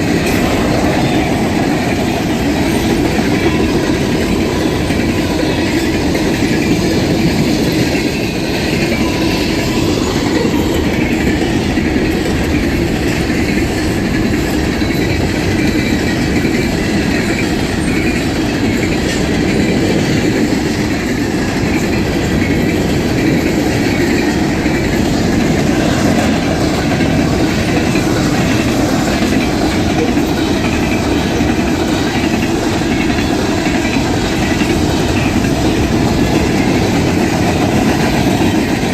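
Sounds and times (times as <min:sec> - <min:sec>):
train wheels rumbling on rail: 0:00.0 - 0:38.9
wheels clicking over rail joints: 0:00.0 - 0:38.9.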